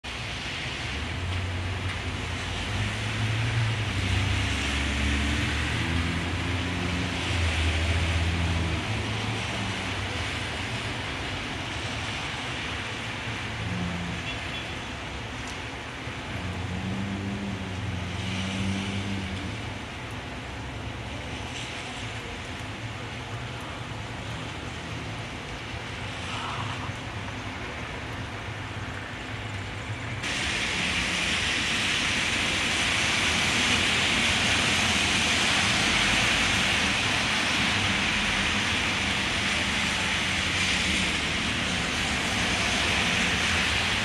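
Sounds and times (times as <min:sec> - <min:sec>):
cars passing on wet road: 0:00.0 - 0:44.0
heavy rain on street: 0:00.0 - 0:44.0.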